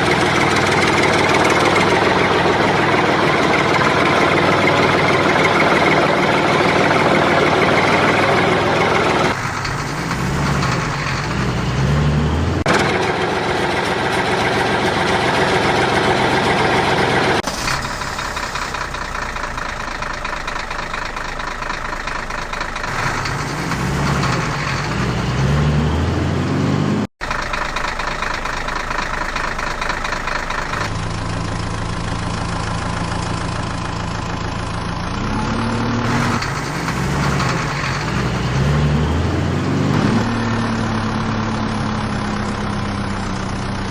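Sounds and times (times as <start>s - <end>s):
heavy vehicle engine revving: 0.0s - 43.9s.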